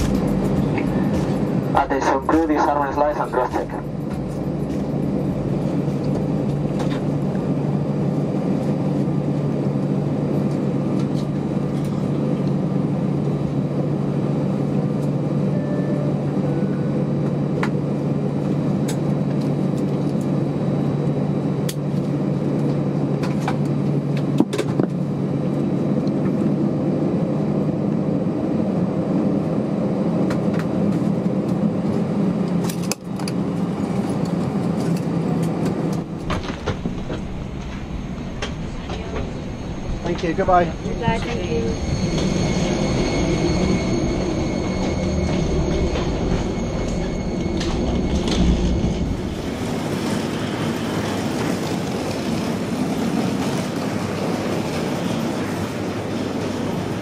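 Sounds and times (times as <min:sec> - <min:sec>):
airplane cabin hum: 0:00.0 - 0:57.0.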